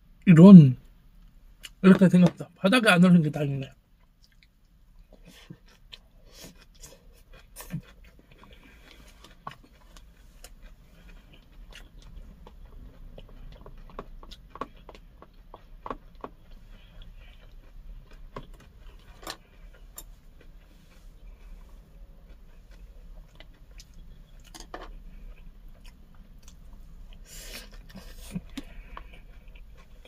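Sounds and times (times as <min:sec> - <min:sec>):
close chewing with wet smacks: 0:03.9 - 0:30.0.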